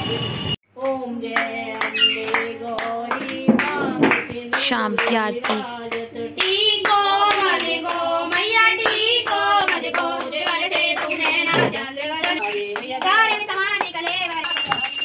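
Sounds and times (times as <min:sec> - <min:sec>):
family singing a hymn: 0:00.8 - 0:14.3
rhythmic hand-clapping: 0:00.8 - 0:15.0.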